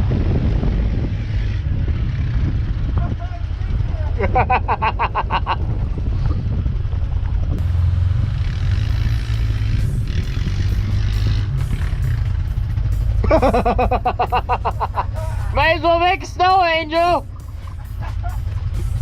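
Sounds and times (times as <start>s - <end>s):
engine low rumble: 0.0s - 19.0s.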